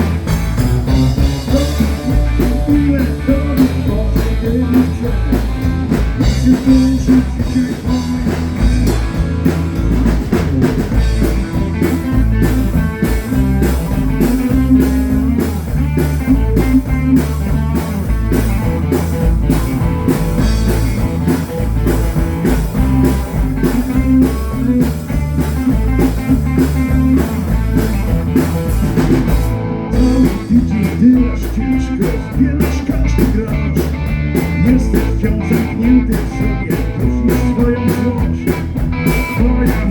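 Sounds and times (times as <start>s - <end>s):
live blues-rock band: 0.0s - 39.9s.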